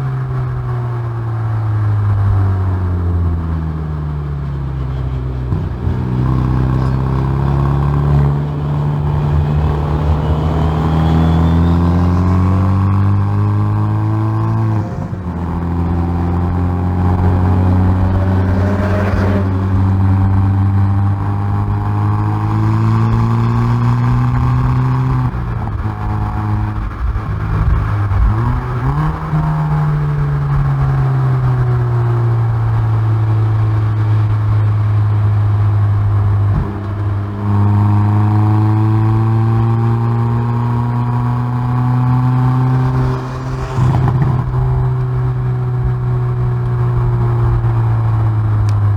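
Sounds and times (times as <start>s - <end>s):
car engine revving with gear changes: 0.0s - 48.9s.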